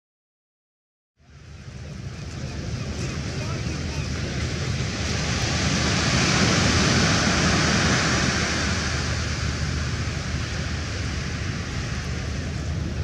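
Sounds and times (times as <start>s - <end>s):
boat engine drone: 1.2s - 13.0s
waves washing on shore: 1.3s - 13.0s.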